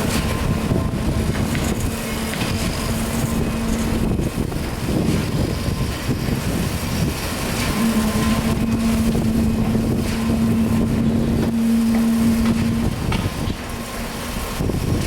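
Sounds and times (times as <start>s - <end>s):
heavy machinery rumbling: 0.0s - 15.0s
steady hum: 0.0s - 15.0s.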